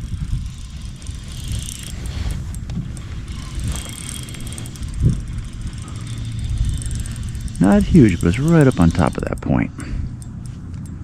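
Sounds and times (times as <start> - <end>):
fishing reel ticking: 0.0 - 11.0
steady low rumble: 0.0 - 11.0.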